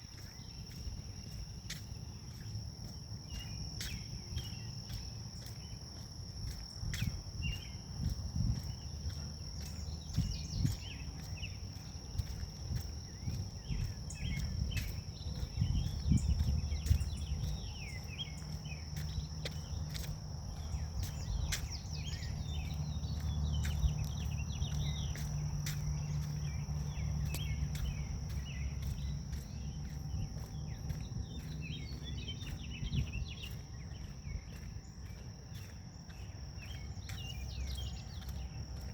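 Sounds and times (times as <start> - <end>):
insects droning: 0.0 - 38.9
light footsteps and clicks: 0.0 - 38.9
steady low hum: 0.0 - 38.9
wind rumble on microphone: 0.0 - 38.9
bird chirps: 3.2 - 7.9, 8.6 - 38.9.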